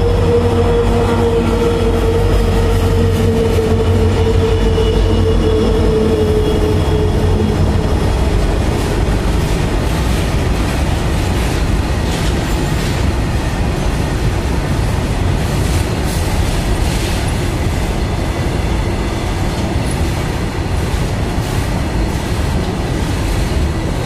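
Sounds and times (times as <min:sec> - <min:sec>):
diesel locomotives passing: 0:00.0 - 0:24.0
freight wagons rumbling: 0:00.0 - 0:24.0.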